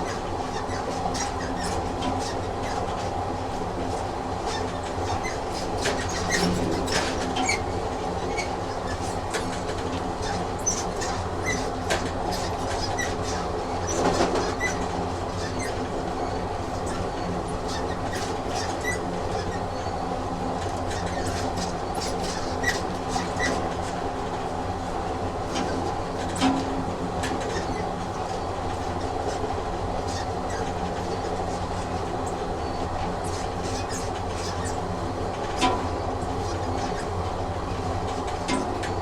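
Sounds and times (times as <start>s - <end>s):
train rumbling on rails: 0.0s - 39.0s.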